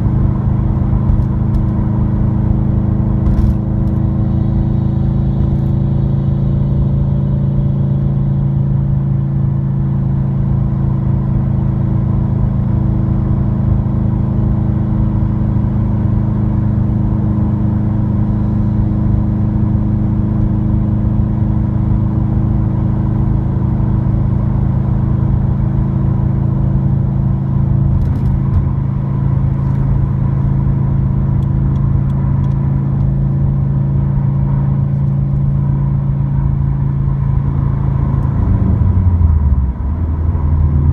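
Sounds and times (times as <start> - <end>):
low exhaust drone: 0.0 - 40.9
road and tyre rumble: 0.0 - 40.9.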